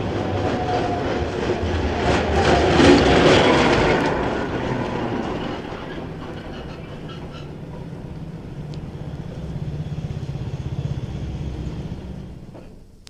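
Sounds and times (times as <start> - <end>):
wheels clacking over rails: 0.0 - 12.8
electric tram passing: 0.0 - 12.9.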